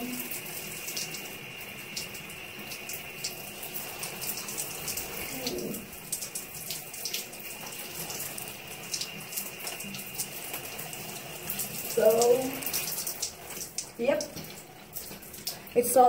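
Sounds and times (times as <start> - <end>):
shower spray on tiles: 0.0 - 16.0.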